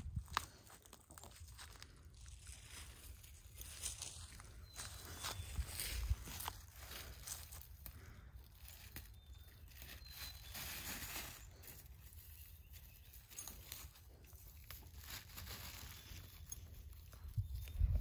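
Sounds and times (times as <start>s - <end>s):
rustling of dry grass: 0.0s - 18.0s.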